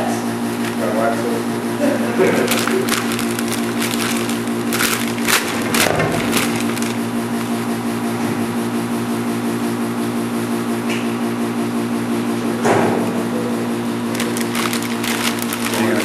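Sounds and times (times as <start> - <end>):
vacuum tumbler motor humming: 0.0 - 10.6, 13.4 - 16.0.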